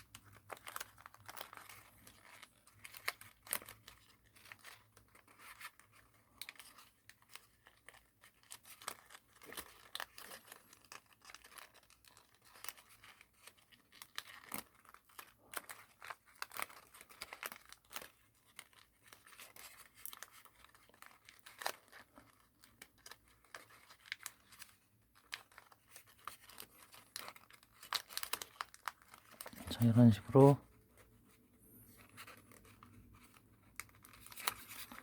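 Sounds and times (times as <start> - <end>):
paper crinkling and creasing: 0.0 - 35.0.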